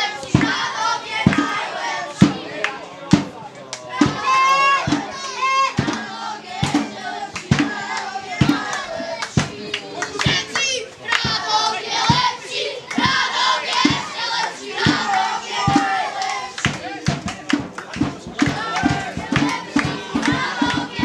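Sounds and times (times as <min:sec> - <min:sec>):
crowd chanting and shouting: 0:00.0 - 0:21.0.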